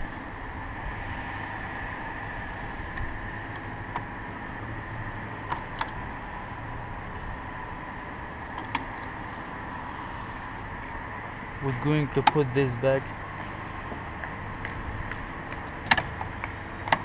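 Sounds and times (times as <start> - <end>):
engine mechanical hum: 0.0 - 17.0.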